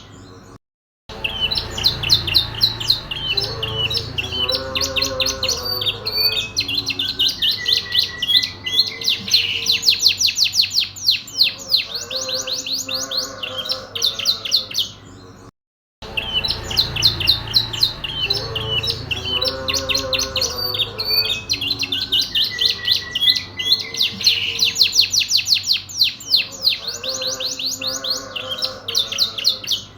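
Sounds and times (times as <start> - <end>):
canary singing trills and chirps: 0.0 - 29.9.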